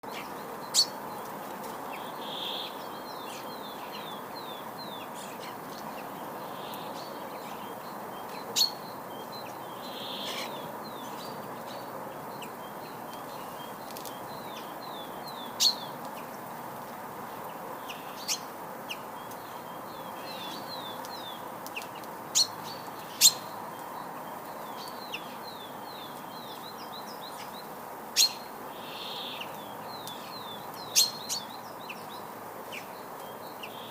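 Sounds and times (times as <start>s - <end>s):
songbirds chirping and singing: 0.0s - 33.9s
steady background hiss: 0.0s - 33.9s.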